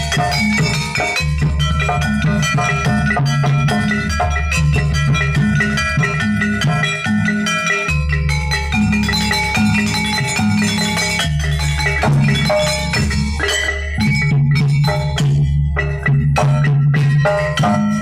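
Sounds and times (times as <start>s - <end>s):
drum strokes: 0.0s - 18.0s
struck metallophones: 0.0s - 18.0s.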